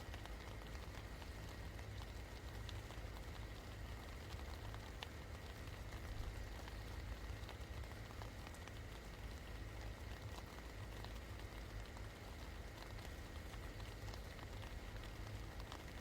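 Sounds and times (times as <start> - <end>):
rain falling: 0.0 - 16.0
raindrops ticking on surfaces: 0.0 - 16.0.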